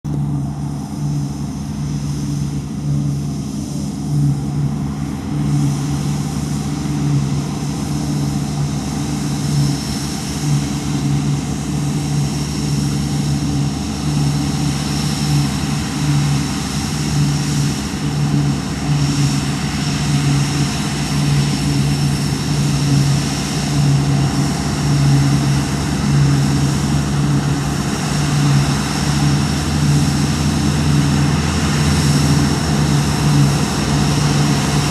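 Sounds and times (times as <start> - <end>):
combine harvester drone: 0.0 - 34.9.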